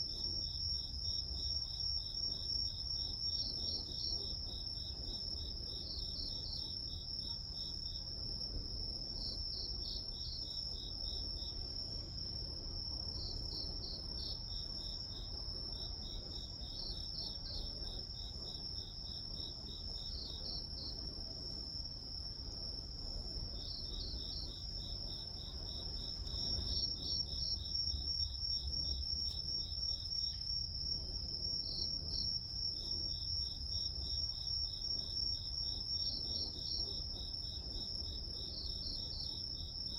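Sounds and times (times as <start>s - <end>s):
insect chirping in rapid pulses: 0.0s - 39.9s.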